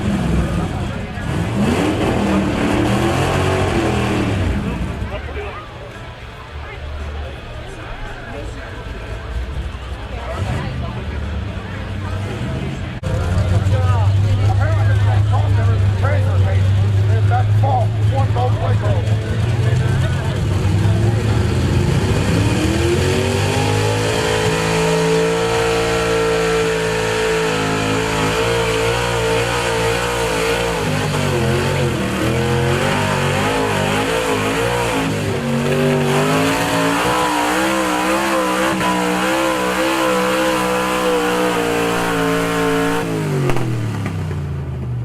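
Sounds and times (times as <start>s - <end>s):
truck engine at full throttle: 0.0s - 45.0s.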